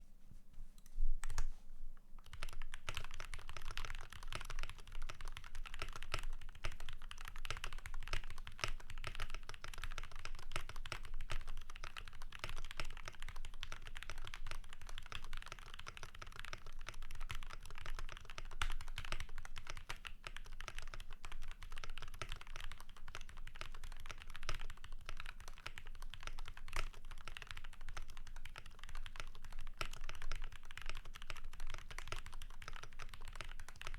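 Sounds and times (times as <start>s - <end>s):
mechanical keyboard typing: 2.2s - 33.9s.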